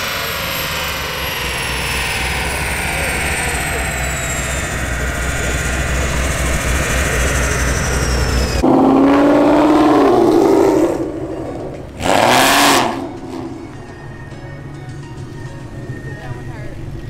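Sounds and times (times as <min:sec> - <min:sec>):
car engine low rumble: 0:00.0 - 0:17.0
high whines of engine and rollers: 0:00.0 - 0:17.0.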